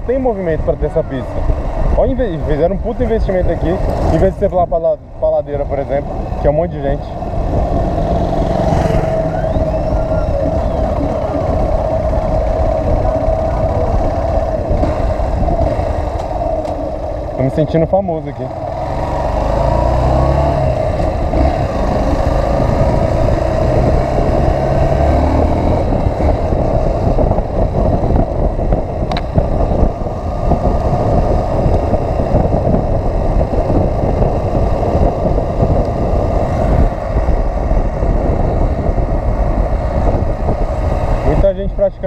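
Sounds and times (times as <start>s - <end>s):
rushing wind noise: 0.0s - 42.0s
motorcycle engine running: 5.4s - 42.0s.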